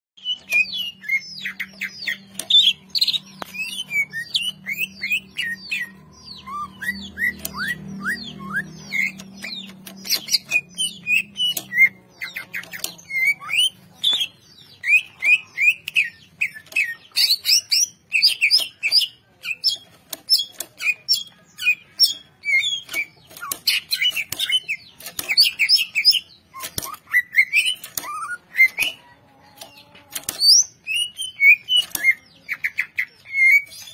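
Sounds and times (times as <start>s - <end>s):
bird singing: 0.2s - 33.9s.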